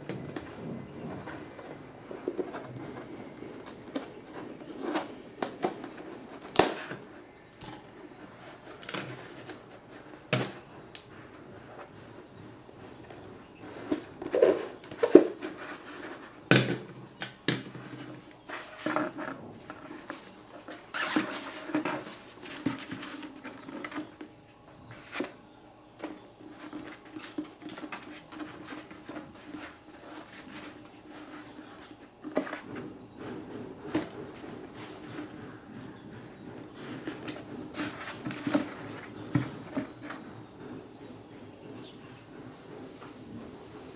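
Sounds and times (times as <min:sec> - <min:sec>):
plastic and paper rustling: 0:00.0 - 0:40.4.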